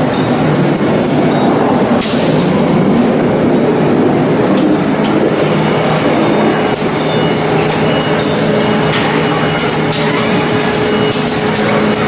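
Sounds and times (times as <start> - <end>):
rubber mixing mill running: 0.0 - 12.0.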